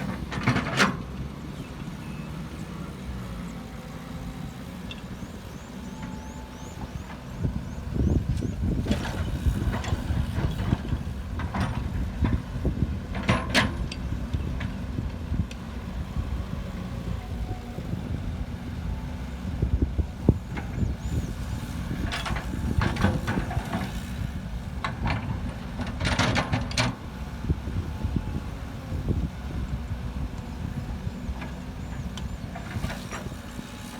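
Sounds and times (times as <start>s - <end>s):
diesel engines rumbling: 0.0s - 33.9s.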